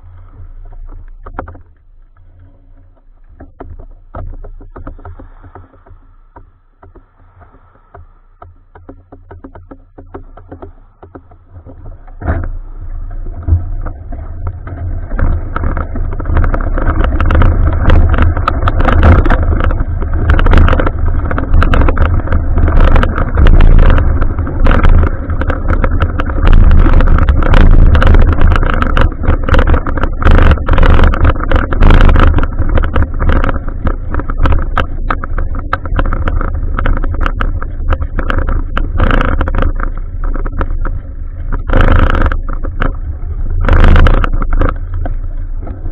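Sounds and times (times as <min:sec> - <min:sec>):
low rumble: 0:00.0 - 0:45.9
wind on microphone: 0:00.0 - 0:45.9
bicycle clicks and rattles: 0:08.4 - 0:45.9.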